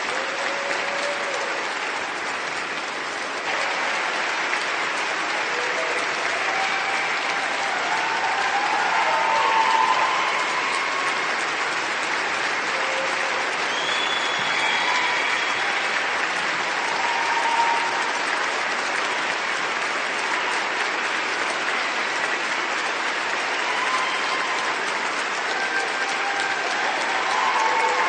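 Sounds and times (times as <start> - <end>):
large audience applauding: 0.0 - 28.0.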